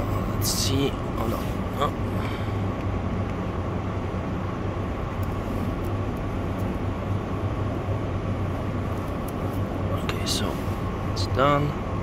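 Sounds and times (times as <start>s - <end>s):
low motor drone: 0.0s - 12.0s.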